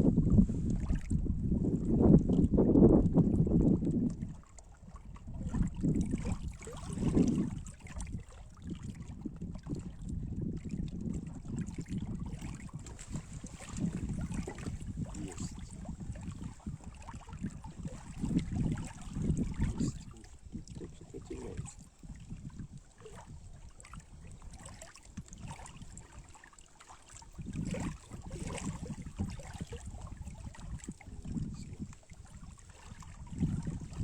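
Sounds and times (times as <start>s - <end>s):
wind rumbling on microphone: 0.0s - 26.4s, 27.1s - 34.0s.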